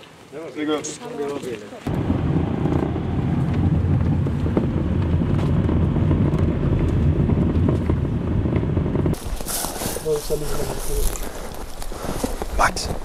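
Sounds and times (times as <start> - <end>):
car driving on gravel from inside: 1.9 - 13.0.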